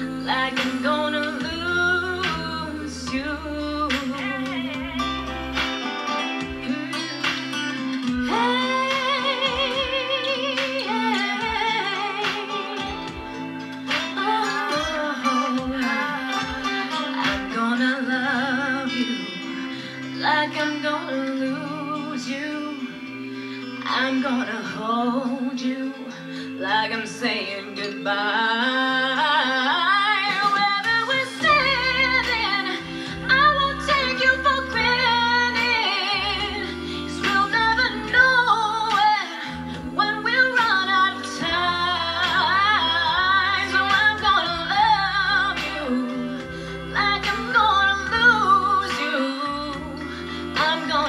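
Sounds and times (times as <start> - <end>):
musical accompaniment with bass: 0.0 - 51.0
woman singing with vibrato: 0.0 - 51.0.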